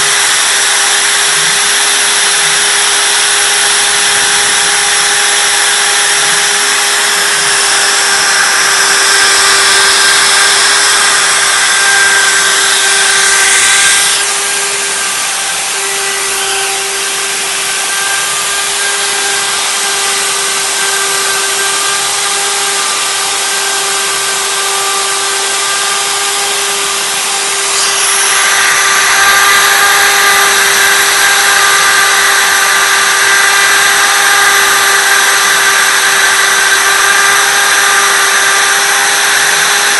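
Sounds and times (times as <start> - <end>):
router bit cutting wood: 0.0 - 39.9
wood router spindle whine: 0.0 - 39.9.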